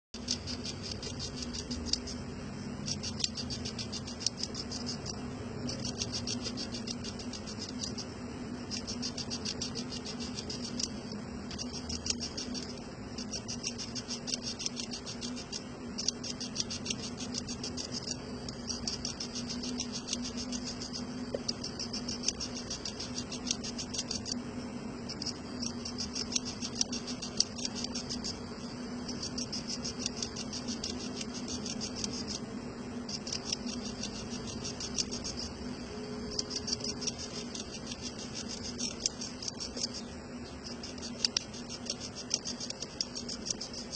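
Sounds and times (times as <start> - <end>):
insect high-pitched ticking: 0.2 - 43.9
low steady hum: 0.2 - 43.9.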